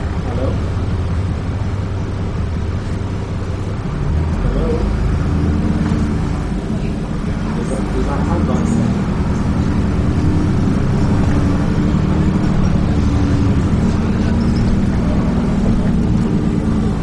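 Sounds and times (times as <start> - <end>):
bus diesel engine droning: 0.0 - 17.0
road noise: 0.0 - 17.0.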